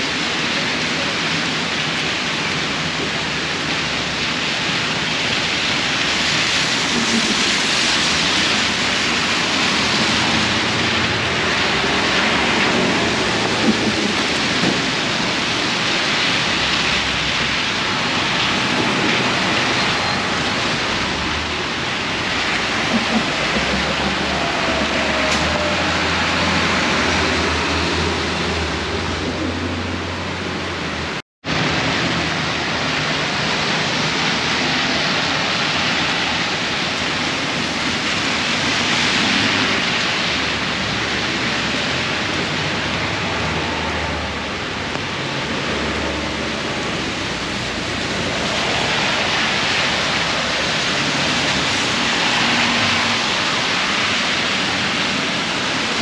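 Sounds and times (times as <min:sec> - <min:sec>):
heavy rain on an umbrella: 0:00.0 - 0:56.0
low traffic rumble: 0:00.0 - 0:56.0
rain on wet pavement: 0:00.0 - 0:56.0.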